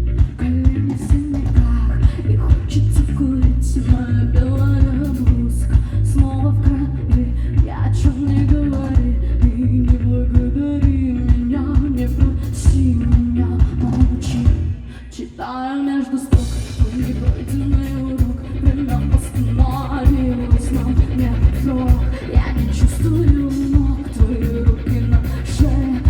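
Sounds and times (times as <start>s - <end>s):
drums keeping a steady beat: 0.0s - 14.8s, 16.3s - 26.0s
bass guitar: 0.0s - 15.2s, 16.3s - 26.0s
woman singing: 0.0s - 26.0s.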